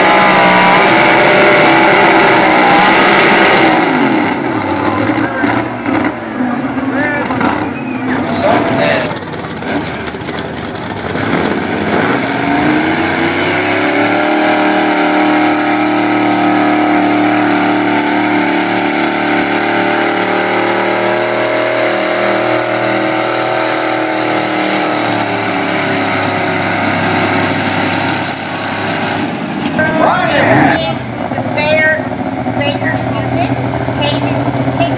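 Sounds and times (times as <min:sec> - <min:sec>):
truck engine at full throttle: 0:00.0 - 0:34.9.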